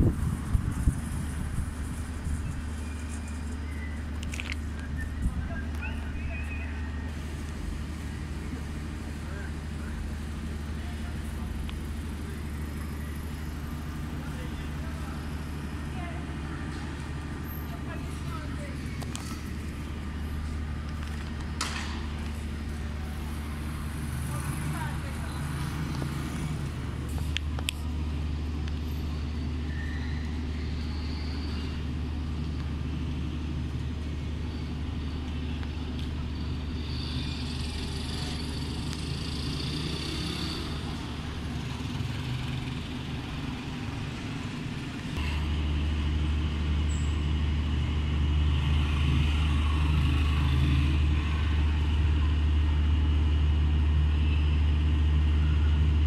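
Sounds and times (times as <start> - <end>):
faint street sounds: 0.0 - 56.0
road traffic rumble: 0.0 - 56.0.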